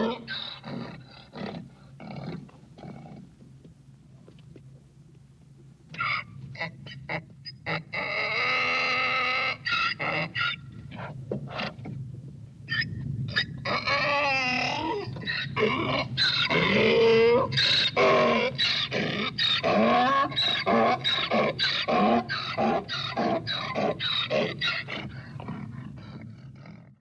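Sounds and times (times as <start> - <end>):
donkey braying: 0.0 - 3.3, 5.9 - 12.0, 12.7 - 26.9.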